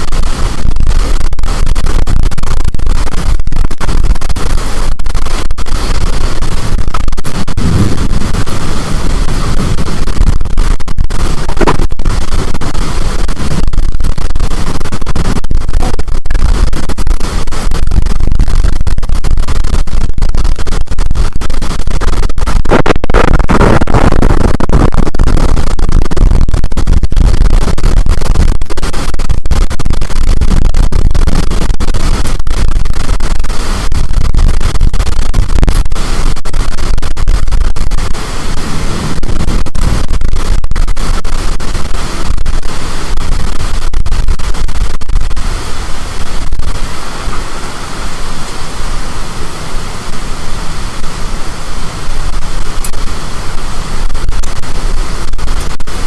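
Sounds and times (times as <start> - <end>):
wind buffeting microphone: 0.0 - 47.6.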